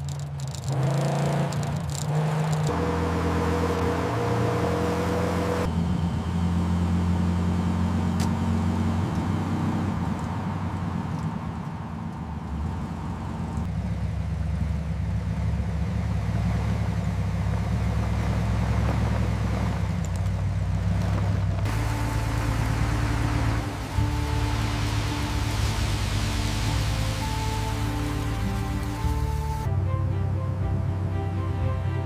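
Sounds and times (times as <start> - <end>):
truck engine humming: 0.0 - 32.0.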